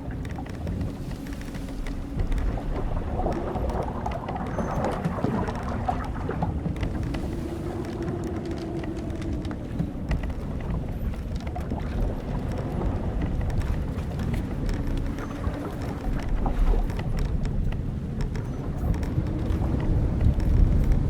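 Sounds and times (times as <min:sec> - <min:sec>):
sea and wind wash: 0:00.0 - 0:21.0
ship timbers creaking: 0:00.0 - 0:21.0.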